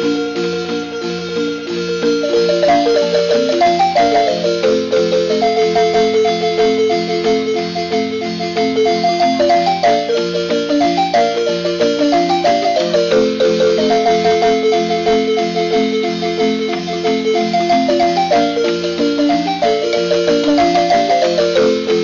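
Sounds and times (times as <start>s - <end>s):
marimba music: 0.0s - 22.0s.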